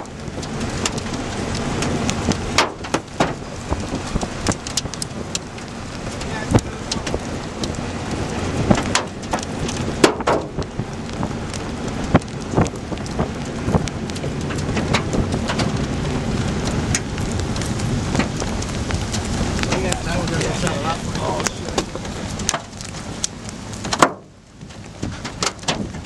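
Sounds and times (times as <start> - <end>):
heavy rain: 0.0 - 26.0
raindrops hitting microphone: 0.0 - 26.0.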